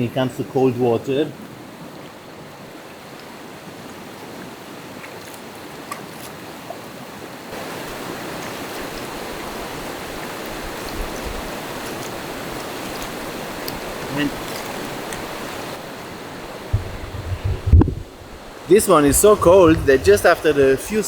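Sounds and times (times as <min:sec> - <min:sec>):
mountain stream rushing: 0:00.6 - 0:21.0.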